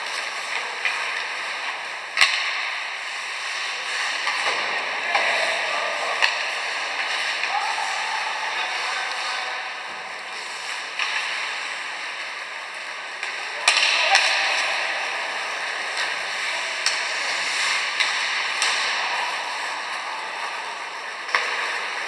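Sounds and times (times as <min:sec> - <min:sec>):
skates hissing on ice: 0:00.0 - 0:13.2, 0:14.2 - 0:22.0
hockey sticks cracking on puck: 0:00.0 - 0:22.0.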